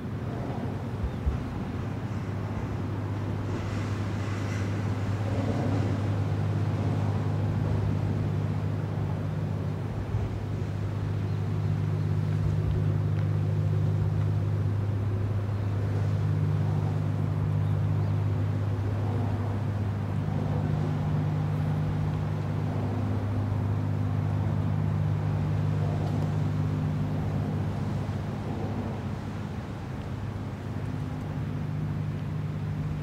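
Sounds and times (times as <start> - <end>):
ship engines droning: 0.0 - 33.0.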